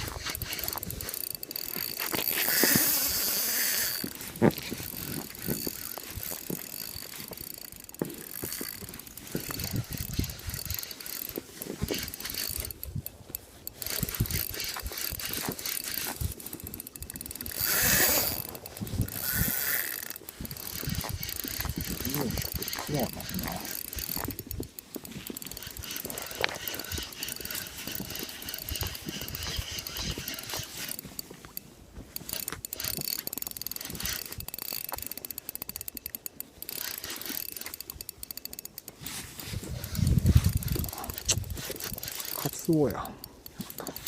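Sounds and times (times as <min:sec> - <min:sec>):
fishing reel ratcheting clicks: 0:00.0 - 0:44.0.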